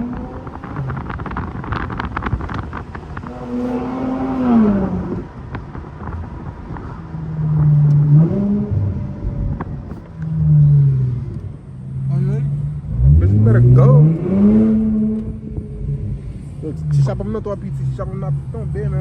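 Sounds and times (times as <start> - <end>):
straight-piped car exhaust accelerating: 0.0 - 19.0.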